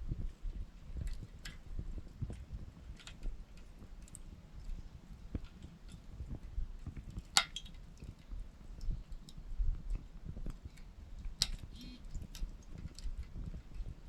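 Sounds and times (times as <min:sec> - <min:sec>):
campfire crackling and popping: 0:00.4 - 0:14.0.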